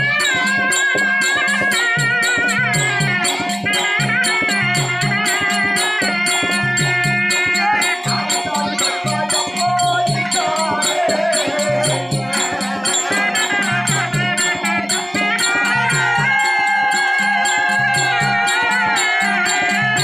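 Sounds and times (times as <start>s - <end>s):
fast jingling beat: 0.0s - 20.0s
repeating drum pattern: 0.0s - 20.0s
wavering melody line: 0.0s - 20.0s.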